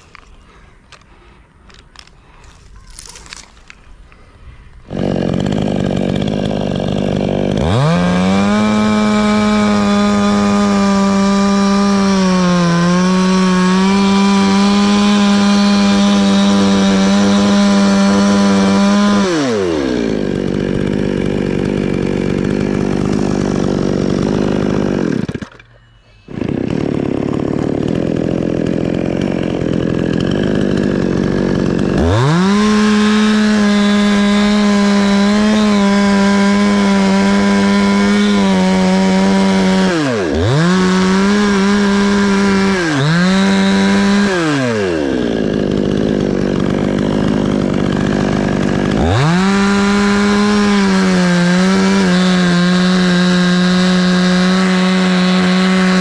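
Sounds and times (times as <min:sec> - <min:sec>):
chainsaw cutting wood: 0:01.7 - 0:04.2, 0:04.8 - 0:56.0.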